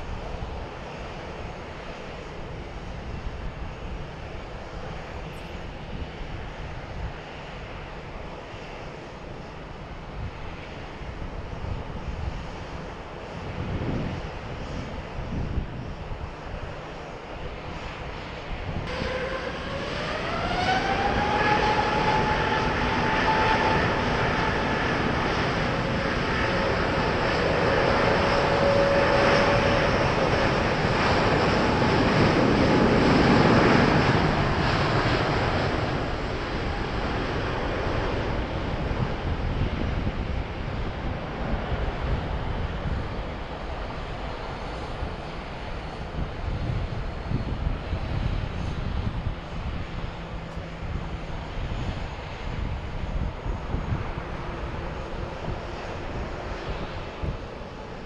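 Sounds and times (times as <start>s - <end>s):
jet engine rushing roar: 0.0s - 58.0s
jet engine whine: 0.0s - 58.0s.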